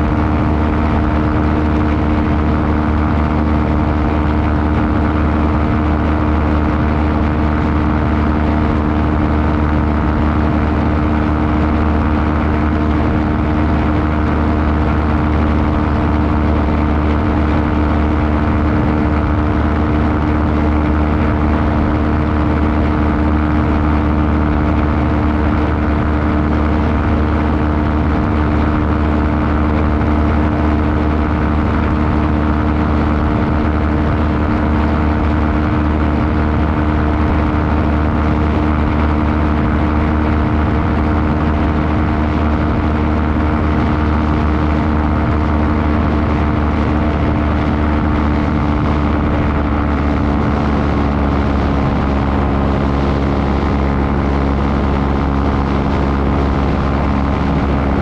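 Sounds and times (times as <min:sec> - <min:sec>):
small aircraft engine and propeller: 0:00.0 - 0:58.0.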